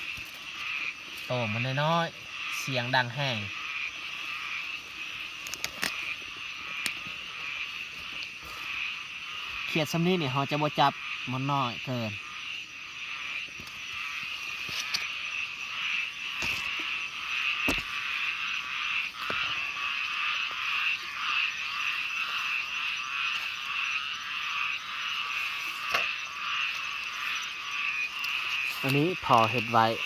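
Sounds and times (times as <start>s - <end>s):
frogs trilling in chorus: 0.0s - 30.0s.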